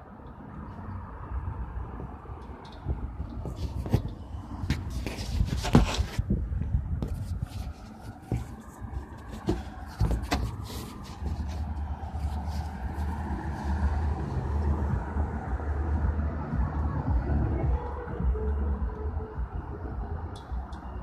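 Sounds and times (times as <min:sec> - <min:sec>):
motor vehicle running: 0:01.4 - 0:21.0.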